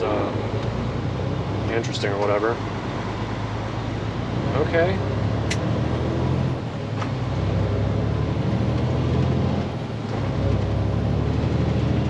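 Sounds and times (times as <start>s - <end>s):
diesel truck engine driving: 0.0s - 12.0s.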